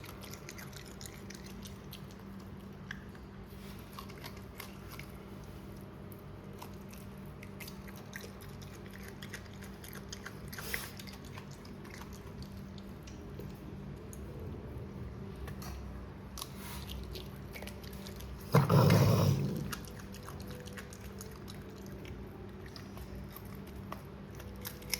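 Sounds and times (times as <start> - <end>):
raccoon chewing and crunching food: 0.0 - 24.9
steady low hum: 0.0 - 24.9.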